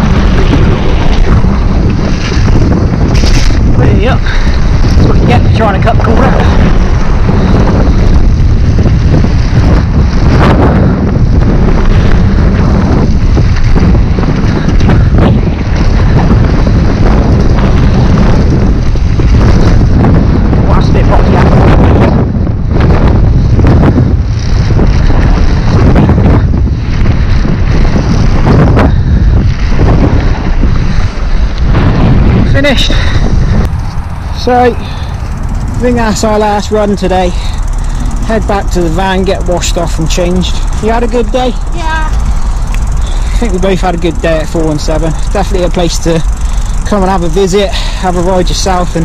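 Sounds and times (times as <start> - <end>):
bike knocking and rattling: 0.0 - 49.0
wind buffeting microphone: 0.0 - 49.0.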